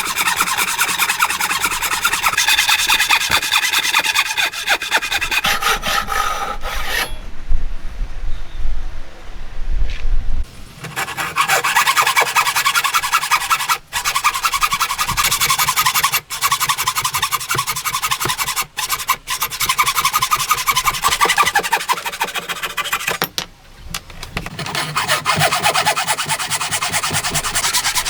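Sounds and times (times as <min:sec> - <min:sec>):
hand tool working wood: 0:00.0 - 0:07.2, 0:10.8 - 0:23.4, 0:24.4 - 0:28.0.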